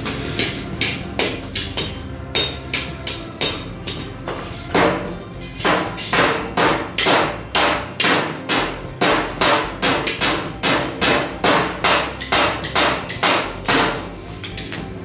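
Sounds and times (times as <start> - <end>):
hammer striking sheet iron: 0.0 - 14.8.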